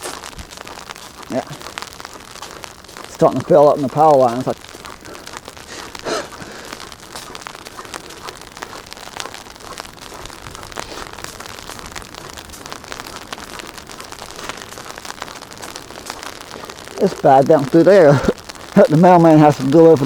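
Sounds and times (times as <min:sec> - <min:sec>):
ice pellets ticking on surfaces: 0:00.0 - 0:20.0
sleet and freezing rain hissing: 0:00.0 - 0:20.0.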